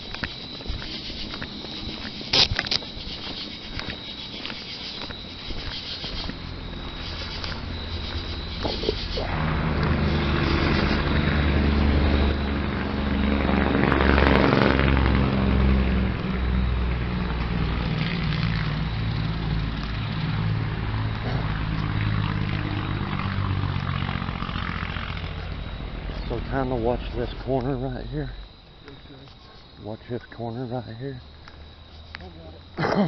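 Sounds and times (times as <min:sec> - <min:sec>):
road noise: 0:00.0 - 0:32.8
vehicle engine drone: 0:00.0 - 0:32.8.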